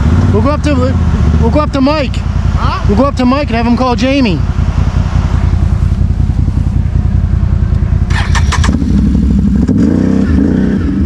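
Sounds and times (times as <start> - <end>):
atv engine rumbling: 0.0 - 11.0.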